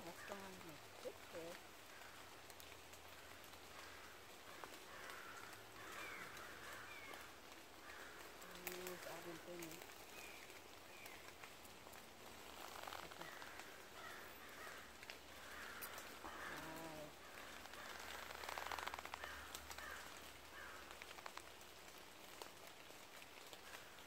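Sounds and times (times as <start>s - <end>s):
rustling of leaves and clothing: 0.0s - 24.0s.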